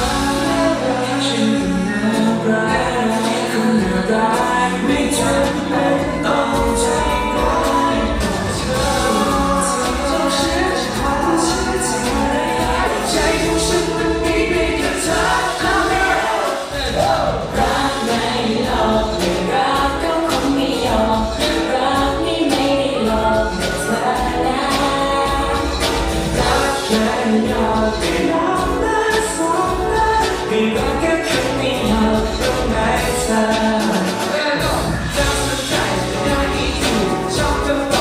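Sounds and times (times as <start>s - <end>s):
live pop song over speakers: 0.0s - 38.0s
steady beat: 0.0s - 38.0s
voices singing: 0.0s - 38.0s.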